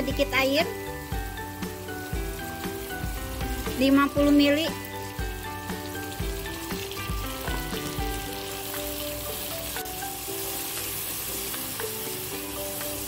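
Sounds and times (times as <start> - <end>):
background music: 0.0 - 13.0
sauce sizzling in oil: 0.0 - 13.0.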